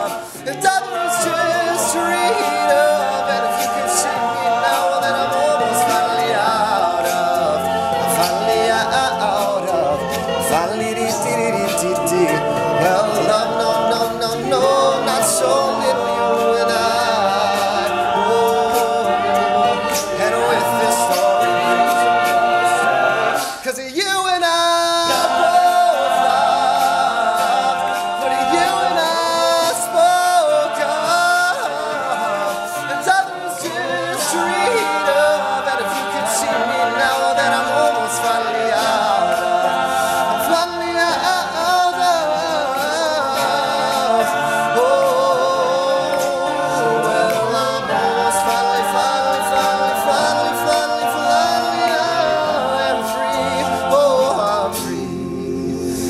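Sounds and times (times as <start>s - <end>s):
ticking beat: 0.0s - 55.4s
men singing a cappella harmony: 0.0s - 56.0s.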